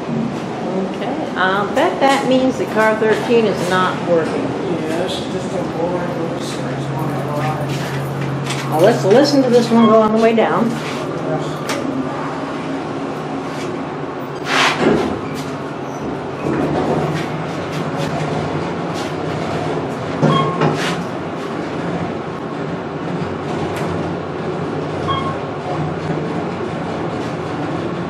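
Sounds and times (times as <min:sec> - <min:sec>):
elevator running hum: 0:00.0 - 0:28.0.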